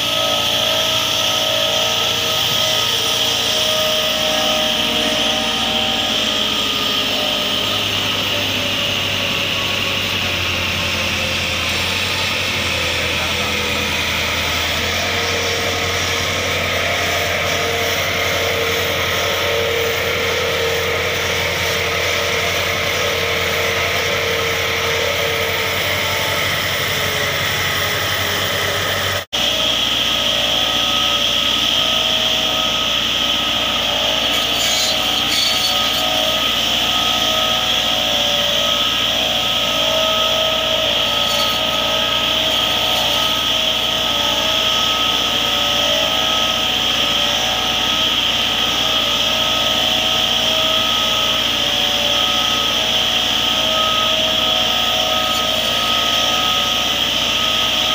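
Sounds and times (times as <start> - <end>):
saw blades cutting branches: 0.0 - 57.9
tractor diesel engine running: 0.0 - 57.9.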